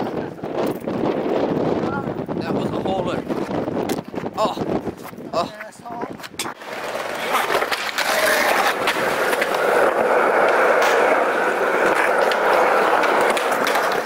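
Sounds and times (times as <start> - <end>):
skateboard wheels rolling on asphalt: 0.0 - 14.0.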